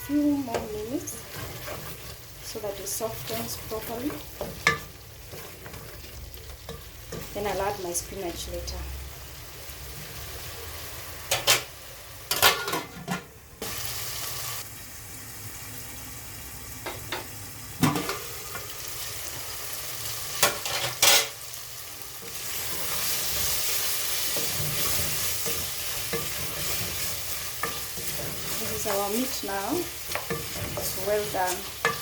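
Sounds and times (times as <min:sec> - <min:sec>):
meat and tomatoes sizzling in a pot: 0:00.0 - 0:32.0.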